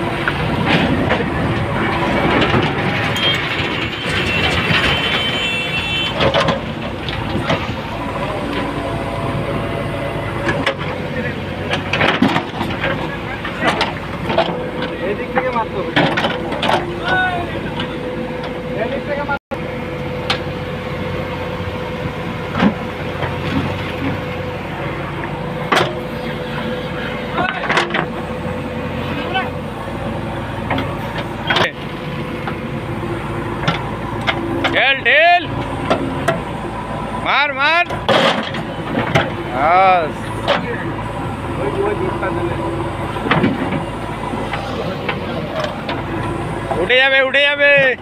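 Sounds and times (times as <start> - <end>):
diesel engine working under load: 0.0 - 48.0.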